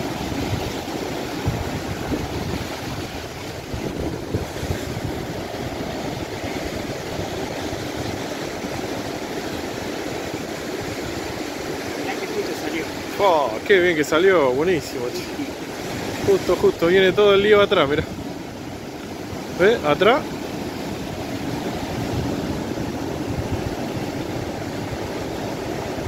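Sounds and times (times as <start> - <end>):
wind buffeting microphone: 0.0 - 12.2, 14.7 - 26.0
ocean surf breaking: 0.0 - 26.0.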